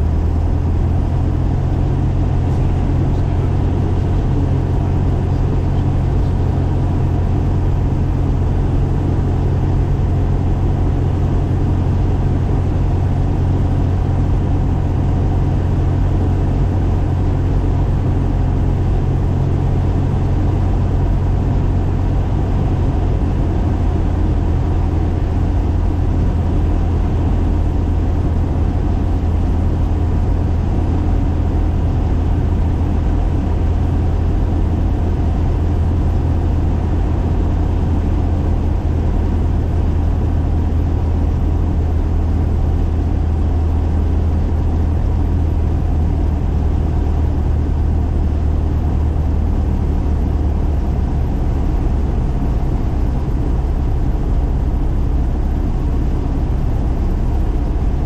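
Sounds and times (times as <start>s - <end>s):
light airplane engine droning: 0.0s - 58.0s.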